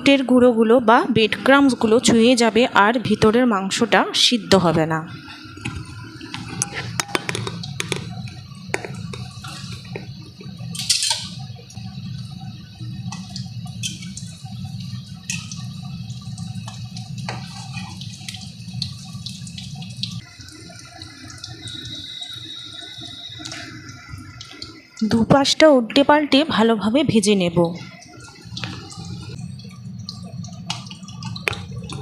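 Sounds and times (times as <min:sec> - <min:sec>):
chicken deep-frying in oil: 0:00.0 - 0:32.0
low steady hum: 0:00.0 - 0:32.0.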